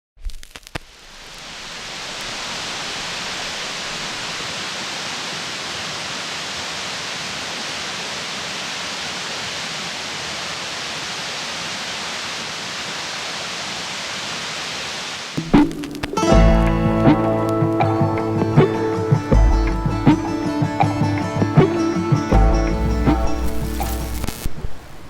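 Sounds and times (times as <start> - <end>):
waterfall rushing: 1.0 - 25.0.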